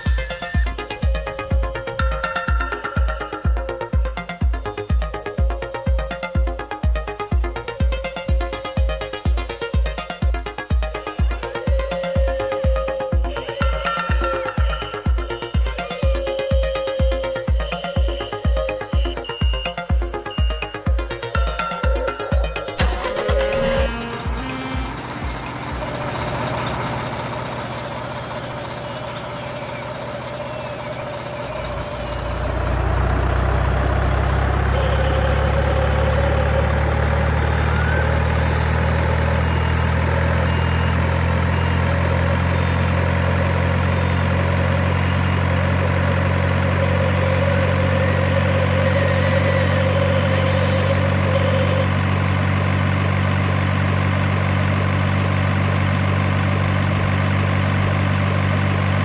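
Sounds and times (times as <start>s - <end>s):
heavy vehicle engine idling: 0.0s - 59.0s.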